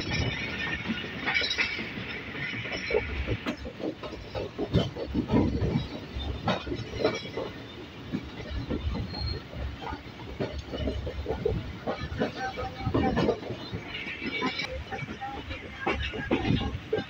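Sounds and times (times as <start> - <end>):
train wheels knocking and clattering: 0.0 - 17.0
train wheels rumbling: 0.0 - 17.0.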